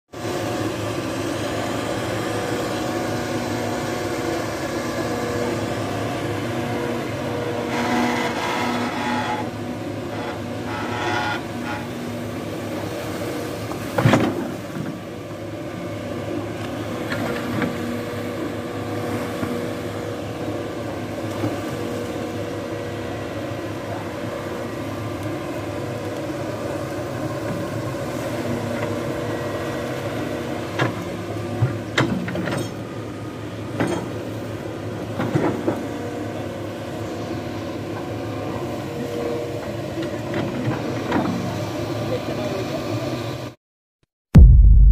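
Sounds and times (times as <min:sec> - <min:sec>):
excavator diesel engine humming: 0:00.2 - 0:43.2.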